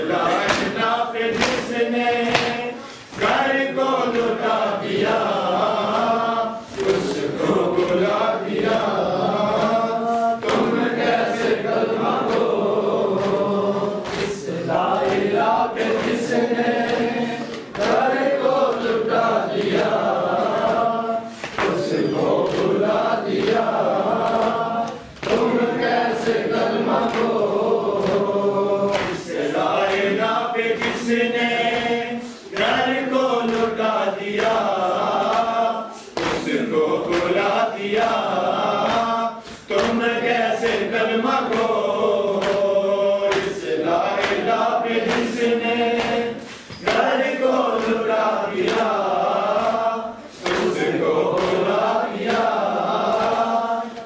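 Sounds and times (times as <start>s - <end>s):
men chanting in unison: 0.0s - 54.0s
hands slapping on chests: 0.1s - 54.0s.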